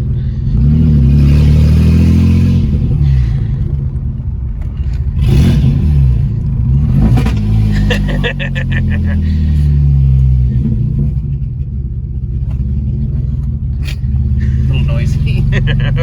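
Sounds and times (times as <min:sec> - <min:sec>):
loud car engine revving: 0:00.0 - 0:16.0.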